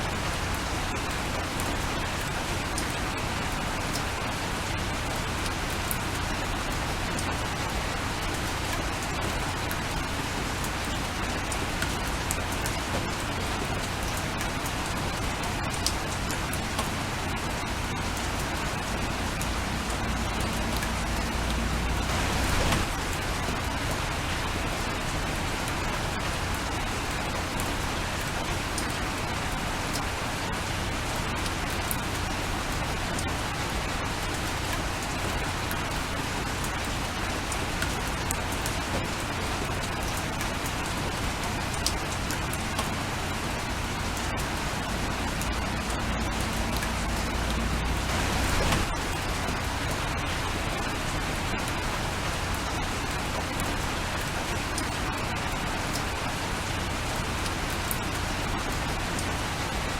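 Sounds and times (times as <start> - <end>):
steady rain falling: 0.0 - 59.9
raindrops ticking: 0.1 - 59.4.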